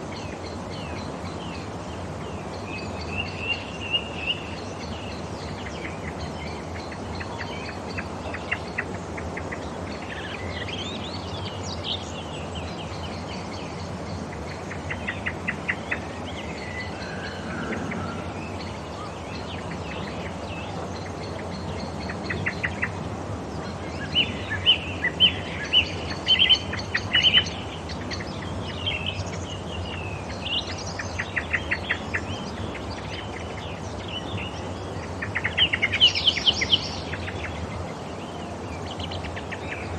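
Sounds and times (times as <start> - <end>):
birds chirping and trilling: 0.0 - 39.9
outdoor background hiss: 0.0 - 39.9.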